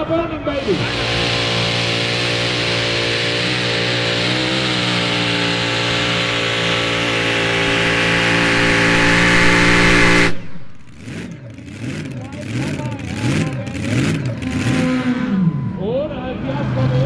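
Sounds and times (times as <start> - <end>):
tractor engine running under load: 0.5 - 14.7.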